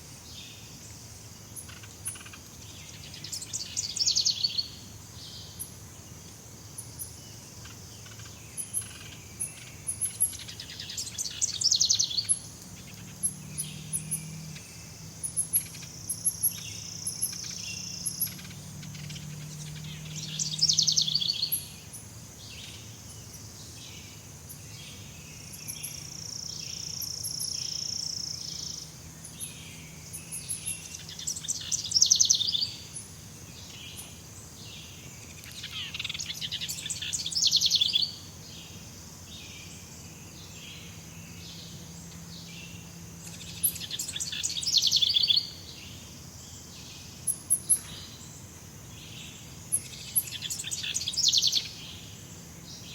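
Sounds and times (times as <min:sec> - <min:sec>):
high insect buzz: 0:00.0 - 0:52.9
pulsing insect chorus: 0:00.0 - 0:52.9.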